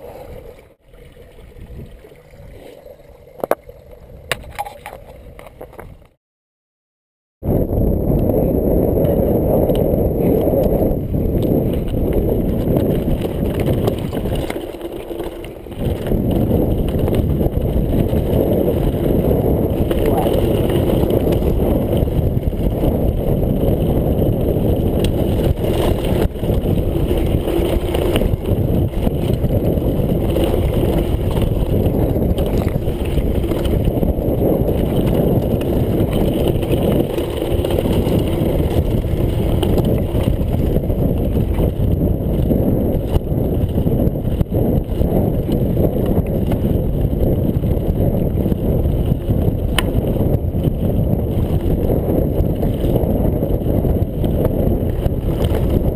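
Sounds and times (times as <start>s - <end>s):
wind buffeting microphone: 0.0s - 2.7s, 7.4s - 55.9s
bike frame rattling: 10.2s - 55.9s.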